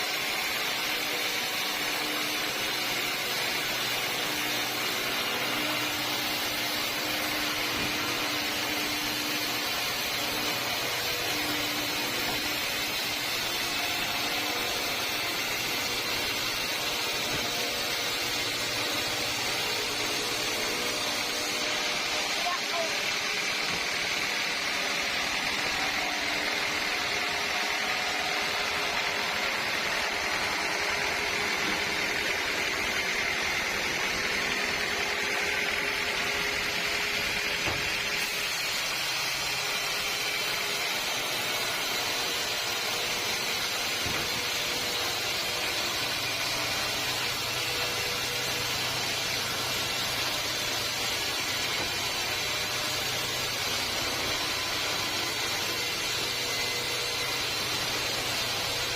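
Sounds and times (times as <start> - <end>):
sawmill machinery running: 0.0 - 58.9.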